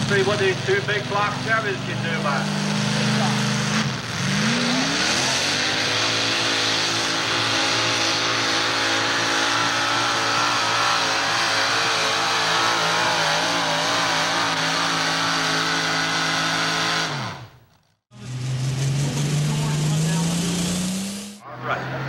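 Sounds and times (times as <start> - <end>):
tractor engines running flat out: 0.0 - 22.0.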